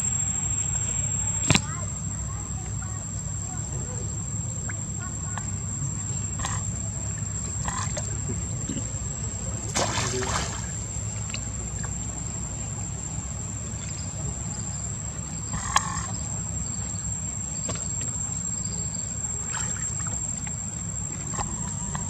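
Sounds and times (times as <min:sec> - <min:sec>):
steady low rumble: 0:00.0 - 0:22.0
water splashing and lapping: 0:01.6 - 0:22.0.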